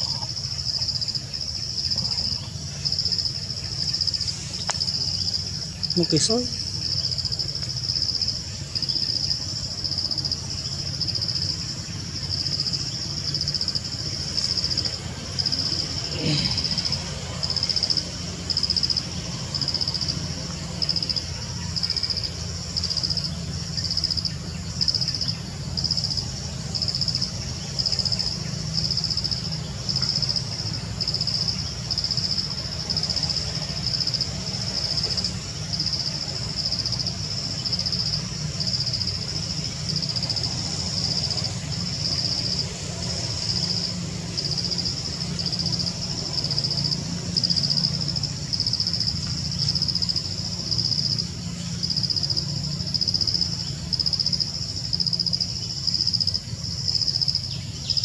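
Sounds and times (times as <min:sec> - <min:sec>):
insects pulsing chorus: 0:00.0 - 0:58.0.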